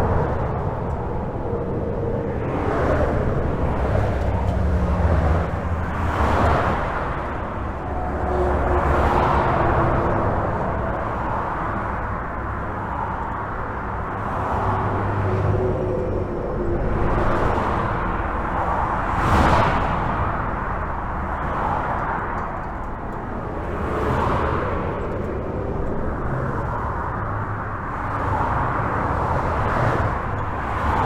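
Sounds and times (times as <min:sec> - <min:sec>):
highway traffic rumble: 0:00.0 - 0:31.0
tyre noise of passing cars: 0:00.0 - 0:31.0.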